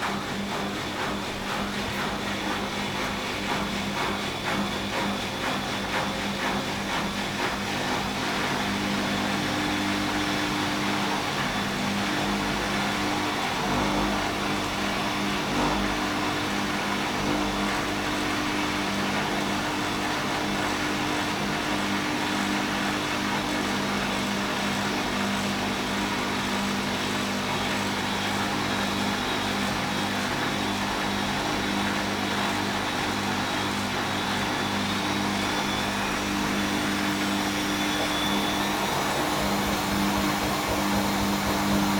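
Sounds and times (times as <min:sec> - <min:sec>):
washing machine drum spinning: 0:00.0 - 0:41.9.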